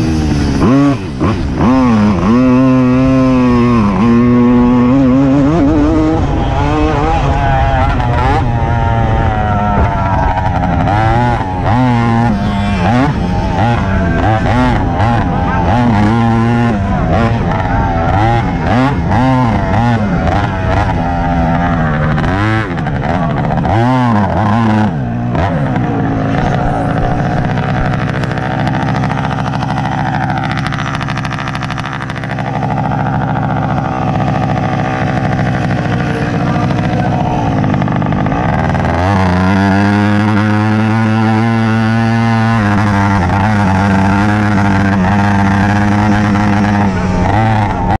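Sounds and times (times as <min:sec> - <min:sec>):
moped engine revving: 0:00.0 - 0:48.0.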